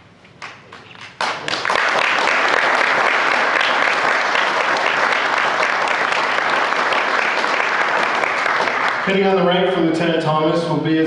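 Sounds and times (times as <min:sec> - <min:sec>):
audience applauding: 0:00.4 - 0:09.6.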